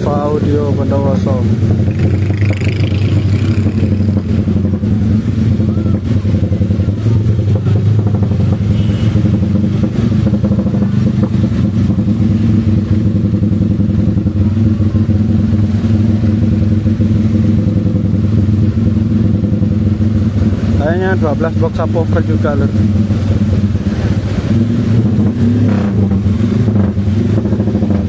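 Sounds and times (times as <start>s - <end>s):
motorcycle engines droning: 0.0s - 28.0s.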